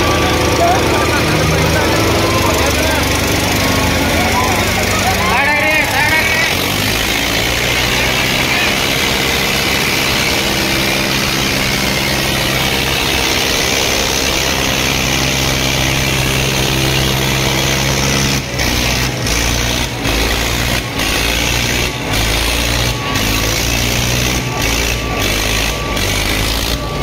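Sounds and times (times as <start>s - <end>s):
diesel tractor engines running: 0.0s - 27.0s.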